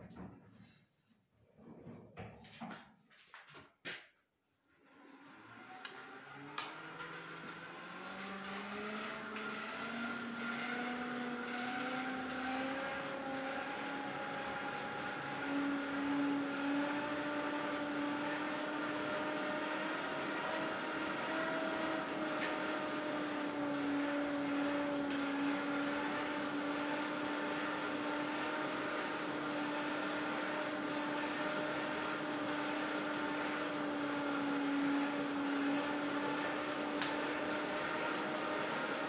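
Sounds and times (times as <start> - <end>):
electric motor humming: 6.9 - 39.0.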